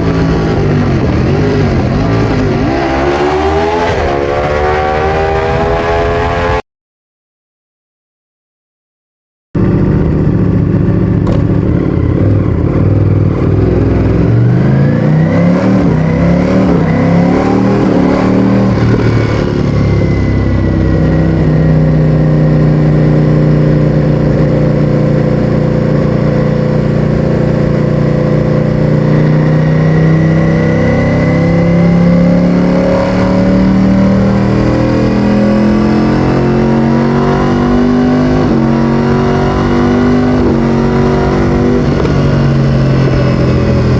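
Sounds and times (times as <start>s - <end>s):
motorcycle engine running hard: 0.0s - 6.6s, 9.6s - 43.9s.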